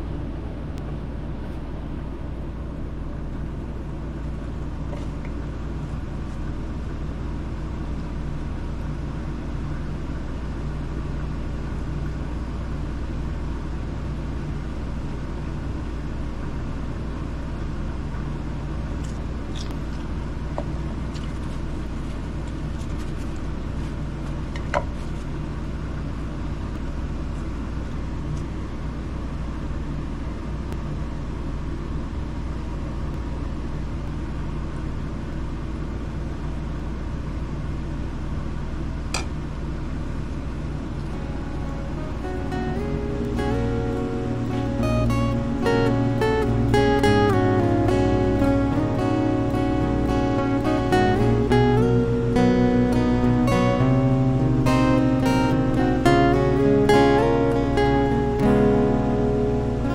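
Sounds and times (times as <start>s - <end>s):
low rumbling hum: 0.0s - 59.9s.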